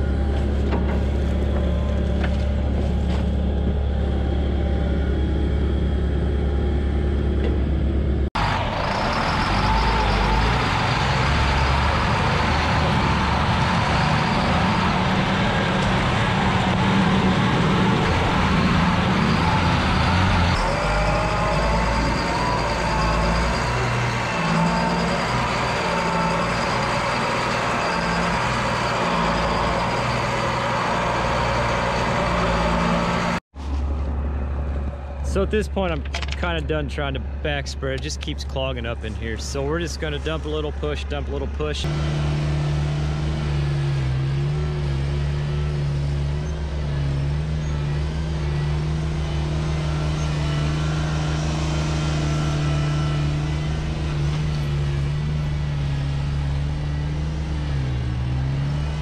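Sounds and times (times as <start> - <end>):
truck engine running under load: 0.0 - 59.0.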